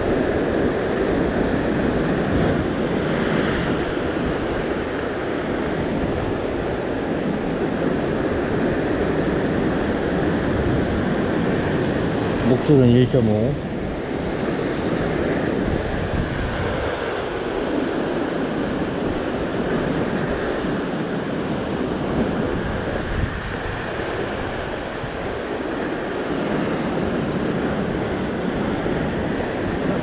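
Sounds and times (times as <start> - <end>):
waves breaking over rocks: 0.0 - 30.0
wind on microphone: 0.0 - 30.0.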